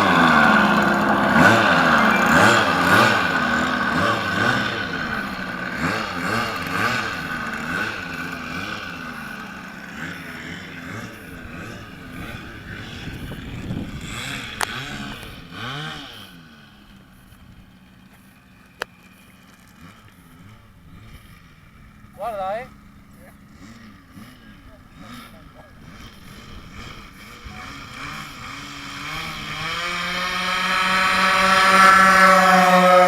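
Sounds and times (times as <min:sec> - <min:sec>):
model airplane motors droning: 0:00.0 - 0:33.0.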